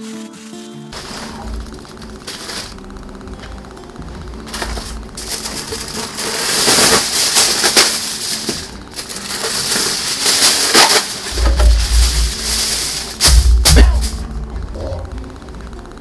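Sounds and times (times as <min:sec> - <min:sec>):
aluminium foil crinkling: 0:00.0 - 0:15.3.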